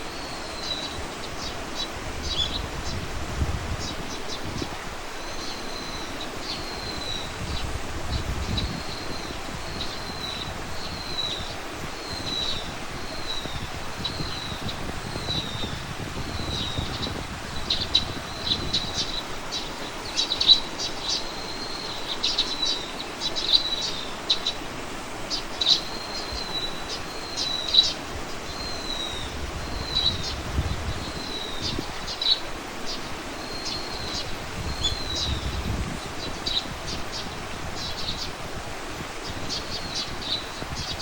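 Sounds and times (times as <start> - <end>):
small birds singing: 0.0 - 41.0.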